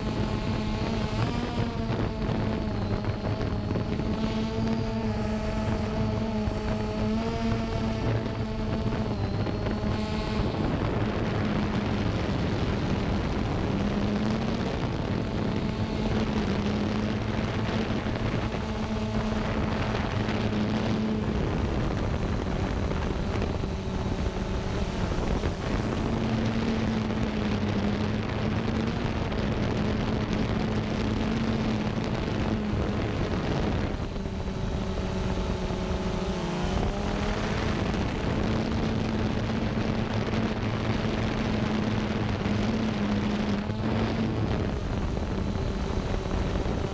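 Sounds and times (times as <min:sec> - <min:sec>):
drone propellers buzzing: 0:00.0 - 0:46.9.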